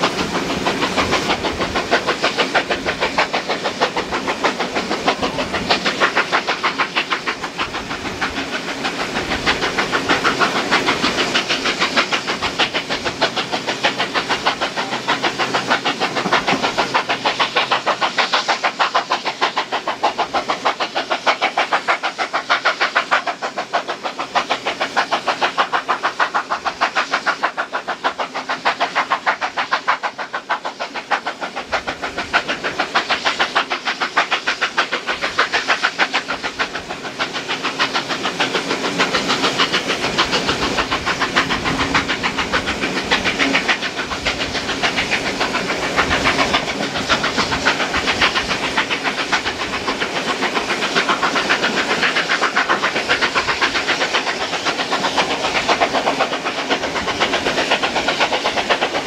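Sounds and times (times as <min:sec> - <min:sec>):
steam locomotive exhaust chuffing: 0:00.0 - 0:59.0.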